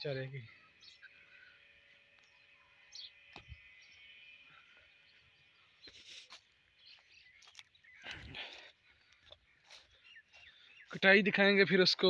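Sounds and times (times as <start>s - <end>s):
faint bird chirps: 0.0s - 11.2s.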